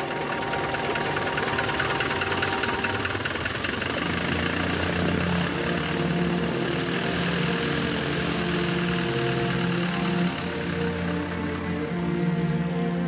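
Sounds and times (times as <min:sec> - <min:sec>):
propeller plane engine idling: 0:00.0 - 0:13.0.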